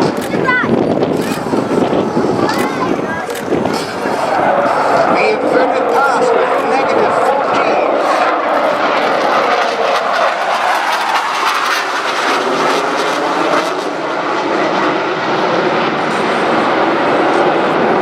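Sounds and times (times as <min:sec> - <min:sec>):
fighter jet roaring past: 0:00.0 - 0:18.0.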